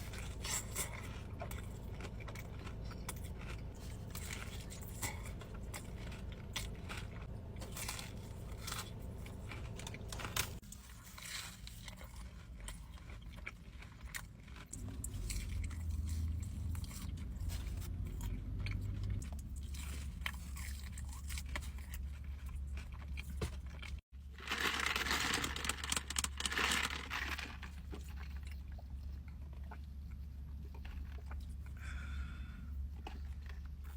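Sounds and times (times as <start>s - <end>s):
chewing and crunching food: 0.0s - 33.9s.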